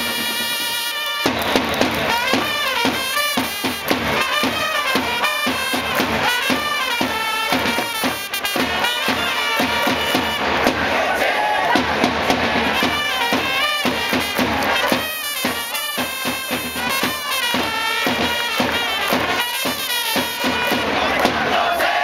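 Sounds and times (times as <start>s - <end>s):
trumpets playing in unison: 0.0s - 11.8s, 12.4s - 22.0s
bass drum beat: 1.2s - 11.1s, 11.7s - 21.8s.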